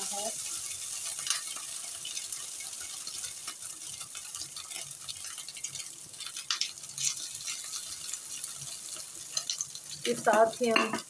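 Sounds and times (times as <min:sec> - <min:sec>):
chicken sizzling in oil: 0:00.0 - 0:11.0
spatula clicks and scrapes: 0:00.6 - 0:11.0.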